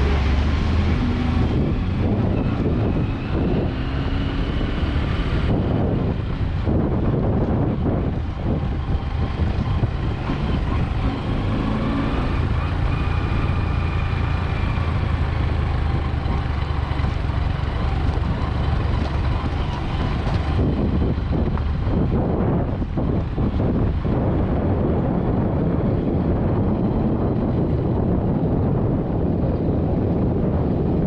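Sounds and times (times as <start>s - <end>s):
vehicle engine rumble and road noise: 0.0s - 31.0s
wind buffeting microphone: 0.0s - 31.0s.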